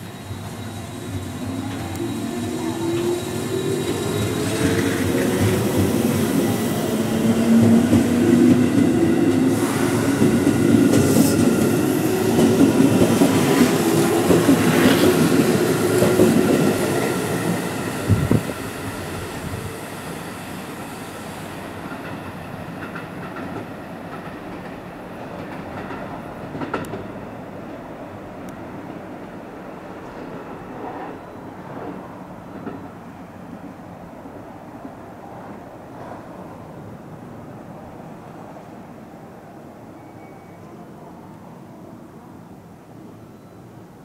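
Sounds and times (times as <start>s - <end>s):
approaching train rumble: 0.0s - 39.0s.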